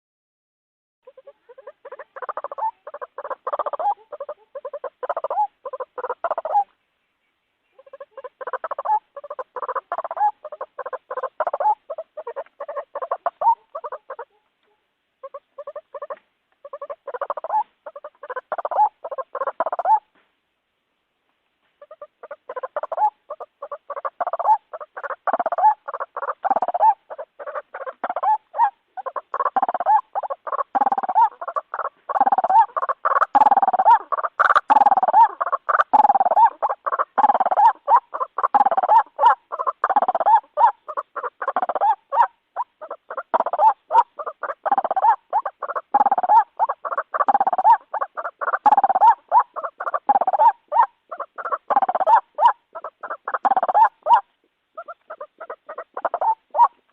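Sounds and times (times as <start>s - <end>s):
waterhen harsh repeated calls: 1.1s - 6.7s, 7.7s - 14.5s, 15.2s - 20.0s, 21.8s - 56.9s.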